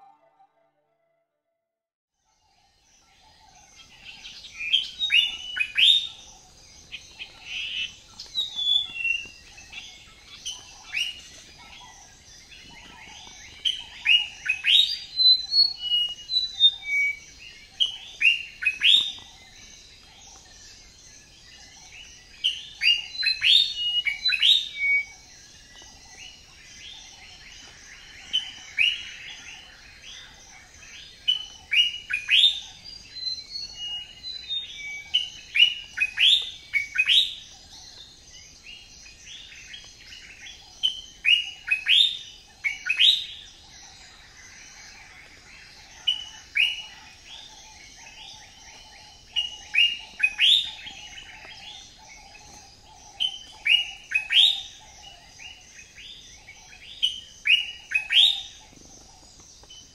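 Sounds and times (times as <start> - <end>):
songbirds chirping and singing: 2.2 - 59.9.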